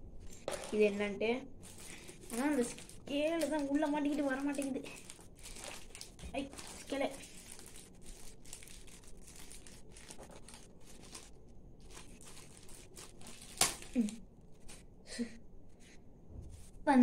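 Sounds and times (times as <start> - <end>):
plastic packaging crinkling: 0.2 - 14.8.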